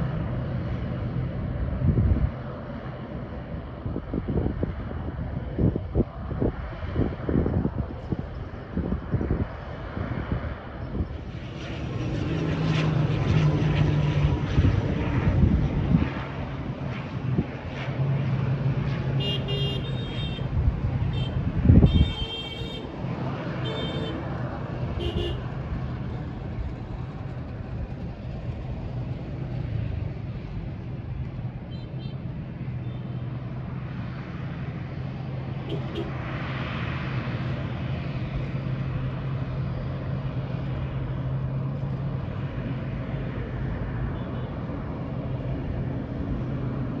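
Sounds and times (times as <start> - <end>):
distant turboprop engines droning: 0.0 - 47.0
outdoor traffic noise: 0.0 - 47.0.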